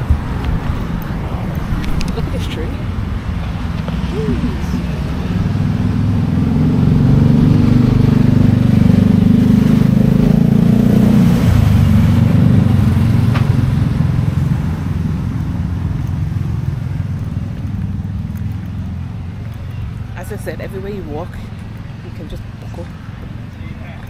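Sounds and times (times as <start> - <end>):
street traffic: 0.0 - 24.0
vehicle engine running: 0.0 - 24.0.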